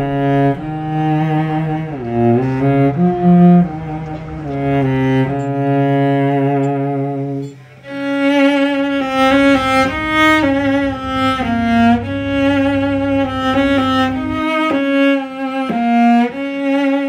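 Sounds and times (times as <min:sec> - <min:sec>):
cello playing slow melody: 0:00.0 - 0:17.0.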